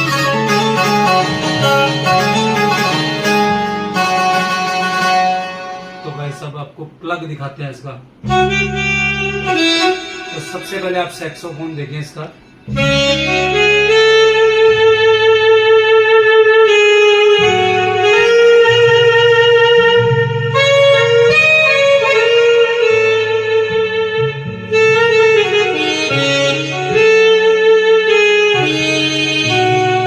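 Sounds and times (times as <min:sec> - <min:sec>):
keyboard saxophone melody: 0:00.0 - 0:06.5, 0:08.1 - 0:30.0
low keyboard accompaniment: 0:00.0 - 0:30.0.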